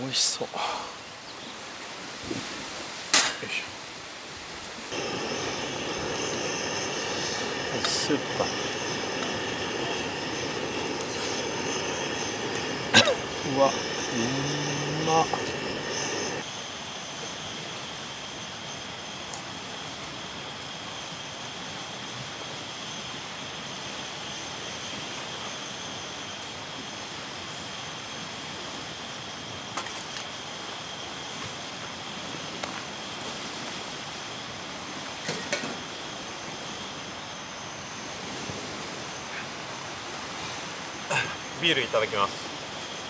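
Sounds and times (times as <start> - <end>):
outdoor background hiss: 0.0 - 19.3, 26.5 - 43.0.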